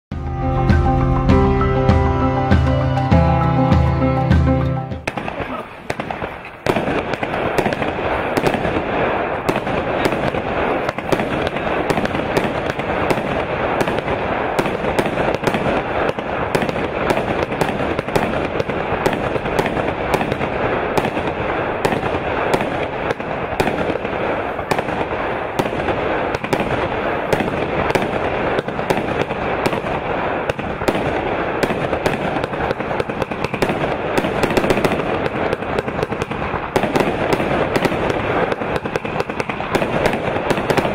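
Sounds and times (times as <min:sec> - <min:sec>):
fireworks barrage: 0:00.2 - 0:40.9.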